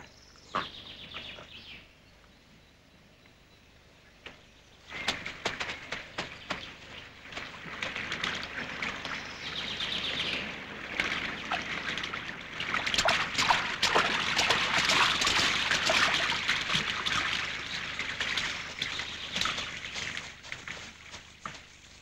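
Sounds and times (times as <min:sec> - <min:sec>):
leaves and branches rustling: 0:04.1 - 0:22.0.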